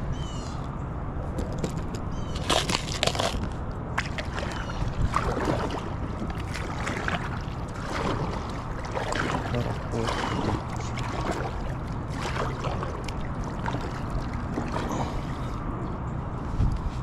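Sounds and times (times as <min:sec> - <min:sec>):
low wind rumble on microphone: 0:00.0 - 0:17.0
water splashing against kayak: 0:01.4 - 0:15.7.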